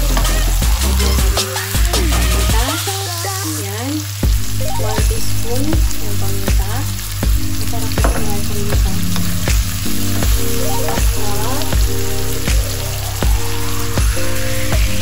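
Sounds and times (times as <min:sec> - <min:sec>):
background music with steady beat: 0:00.0 - 0:02.8, 0:04.2 - 0:15.0
food sizzling in a wok: 0:00.0 - 0:15.0.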